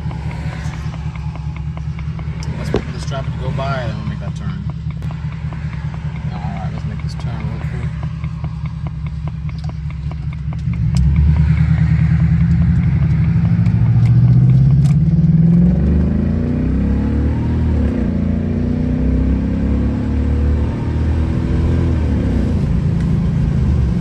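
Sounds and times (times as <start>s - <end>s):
car engine accelerating hard: 0.0s - 24.0s
turn signal ticking: 0.0s - 24.0s.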